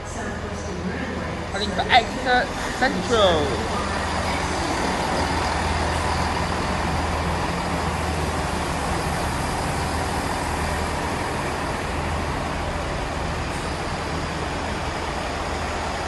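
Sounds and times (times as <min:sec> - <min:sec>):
train diesel engines humming: 0:00.0 - 0:16.0.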